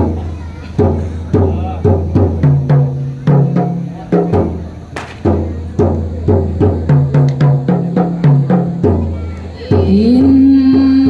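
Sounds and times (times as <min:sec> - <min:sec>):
frame drums beaten by hand: 0:00.0 - 0:11.0.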